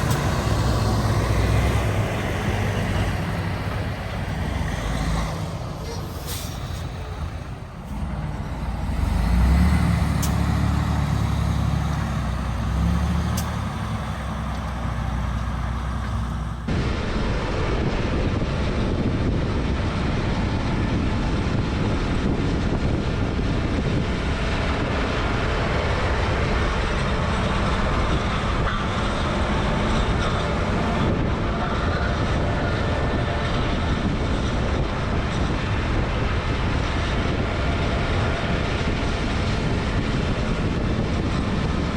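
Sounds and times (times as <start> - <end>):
dense mechanical running noise: 0.0 - 41.9
diesel engine drone: 0.0 - 41.9.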